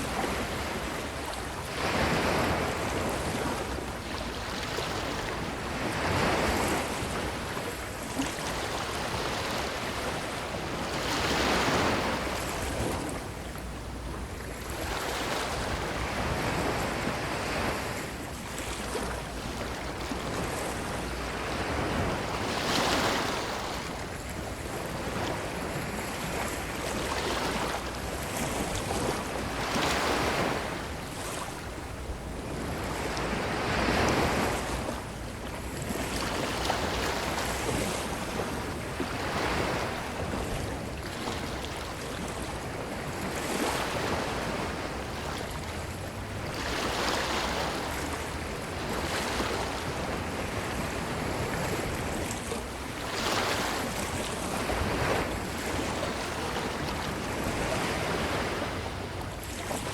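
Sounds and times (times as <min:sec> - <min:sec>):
ocean waves on beach: 0:00.0 - 0:59.9
wind on microphone: 0:00.0 - 0:59.9.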